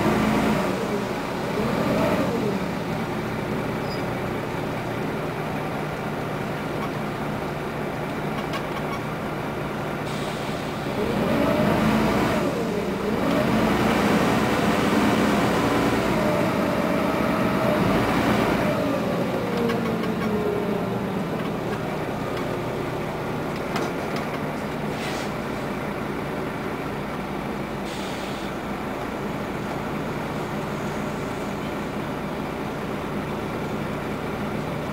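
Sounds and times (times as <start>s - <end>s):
bus drivetrain whine: 0.0s - 34.9s
bus low drone: 0.0s - 34.9s.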